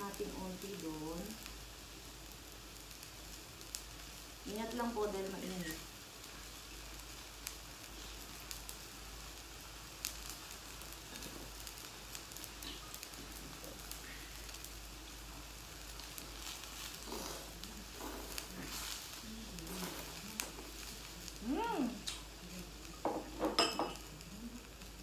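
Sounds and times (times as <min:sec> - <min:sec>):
hot pot simmering hiss: 0:00.0 - 0:25.0.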